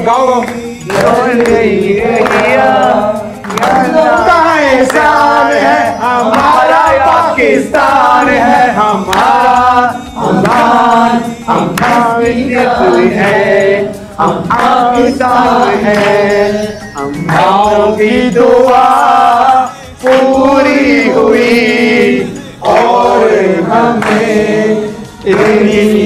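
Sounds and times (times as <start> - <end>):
group singing in unison: 0.0 - 26.0.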